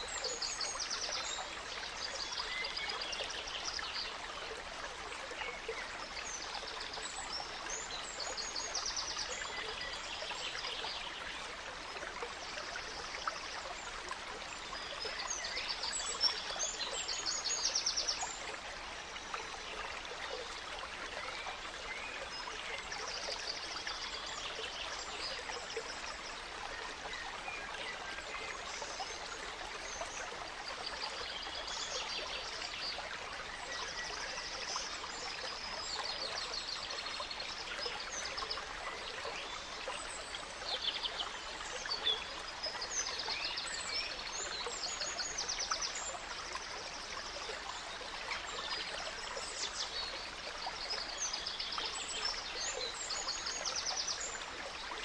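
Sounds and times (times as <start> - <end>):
stream trickling: 0.0 - 55.0.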